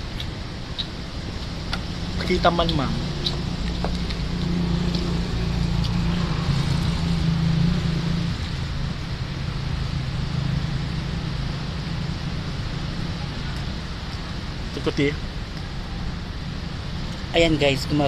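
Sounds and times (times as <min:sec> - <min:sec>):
engine running: 0:00.0 - 0:17.8.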